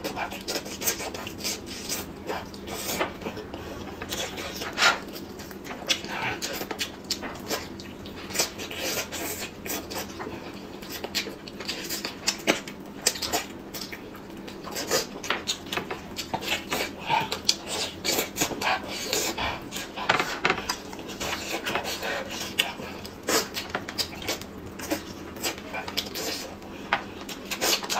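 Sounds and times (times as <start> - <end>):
person chewing: 0.0 - 27.9.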